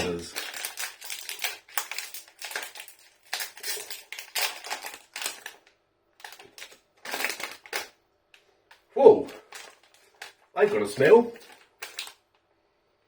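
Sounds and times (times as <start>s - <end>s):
plastic snack packet crinkling: 0.0s - 8.0s, 8.7s - 12.4s.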